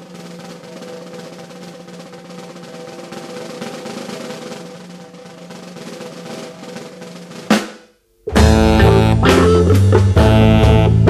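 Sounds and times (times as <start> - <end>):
snare drum roll: 0.0 - 11.0.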